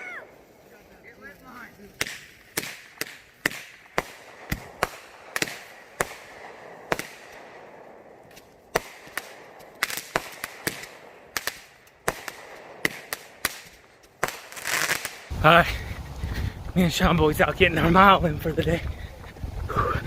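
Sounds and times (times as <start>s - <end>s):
firecrackers popping: 0.0s - 19.7s.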